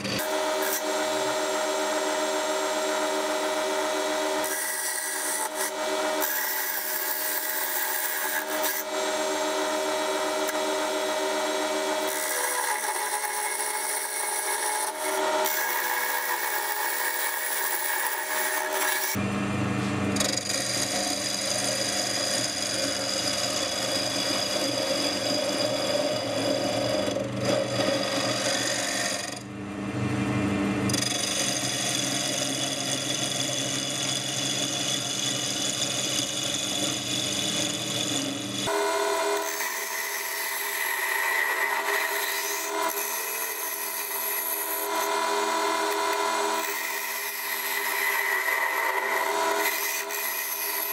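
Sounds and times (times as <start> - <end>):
wood lathe humming: 0.0 - 19.2, 20.2 - 29.5, 30.9 - 50.9.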